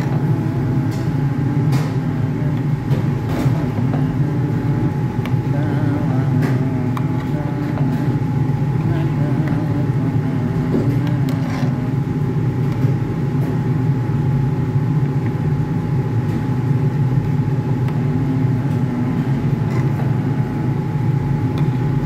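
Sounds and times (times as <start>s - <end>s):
machine hum with whine: 0.0s - 22.0s.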